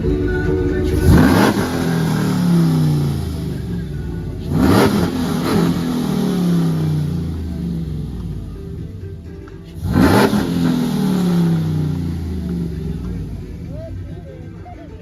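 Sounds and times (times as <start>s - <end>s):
engine revving hard: 0.8s - 8.9s, 9.8s - 14.1s.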